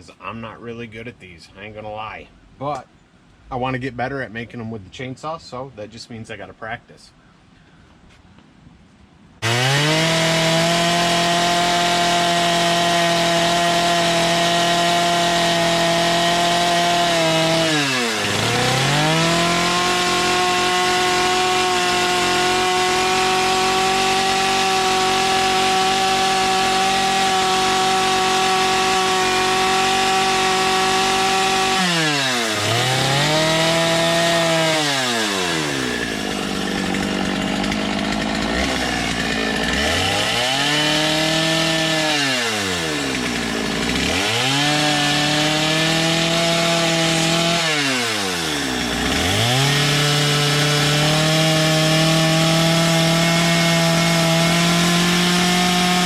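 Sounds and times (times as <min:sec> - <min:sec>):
chainsaw carving wood: 0:09.4 - 0:56.0.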